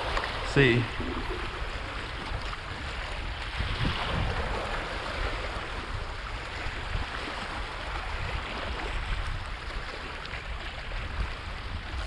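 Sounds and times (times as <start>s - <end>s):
lake waves lapping on rocks: 0.0s - 12.0s
wind rumbling on microphone: 0.0s - 12.0s.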